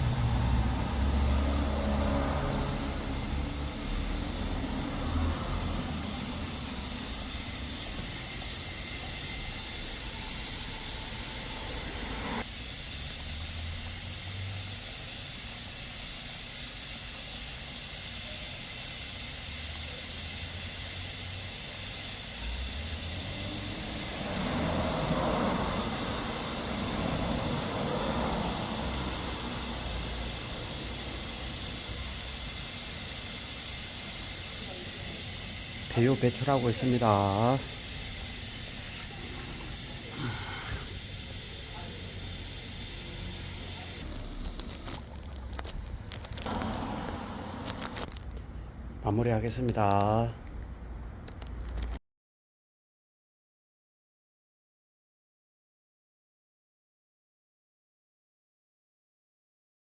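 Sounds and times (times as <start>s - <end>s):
oil-change machine hissing: 0.0s - 48.1s.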